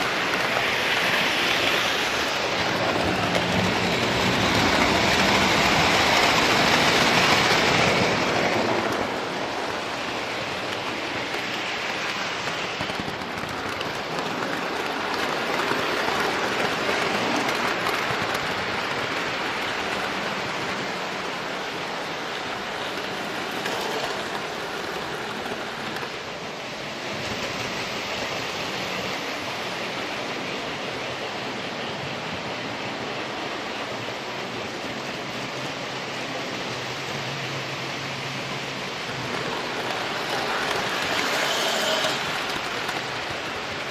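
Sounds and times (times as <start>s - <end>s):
train rushing noise: 0.0s - 43.9s.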